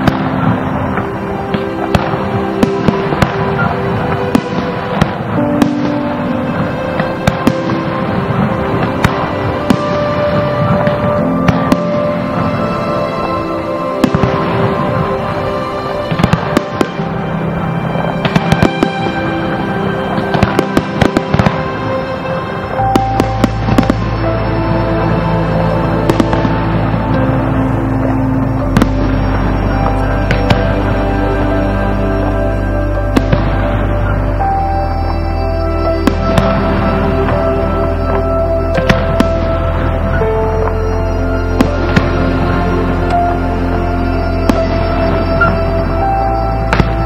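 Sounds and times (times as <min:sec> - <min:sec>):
fireworks bursting with sharp bangs: 0:00.0 - 0:47.0
music playing: 0:00.0 - 0:47.0.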